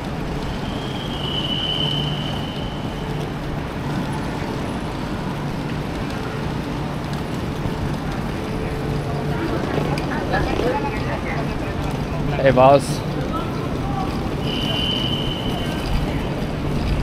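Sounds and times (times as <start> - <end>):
rushing station ambience: 0.0 - 17.0.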